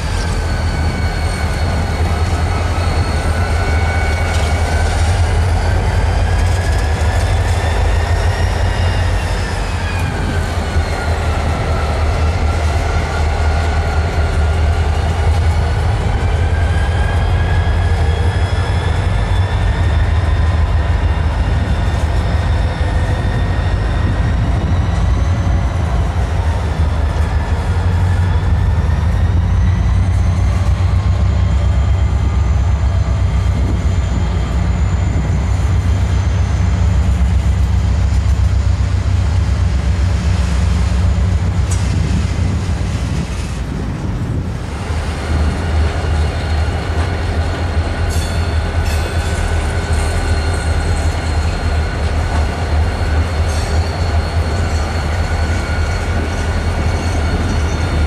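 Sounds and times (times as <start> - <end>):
train wheels squealing: 0.0 - 43.7, 44.7 - 58.0
freight train rumbling past: 0.0 - 58.0.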